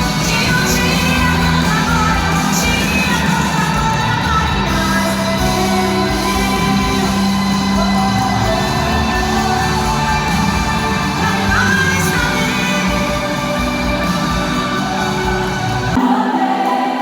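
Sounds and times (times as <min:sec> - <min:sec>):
band playing worship music: 0:00.0 - 0:17.0
person singing: 0:00.0 - 0:17.0.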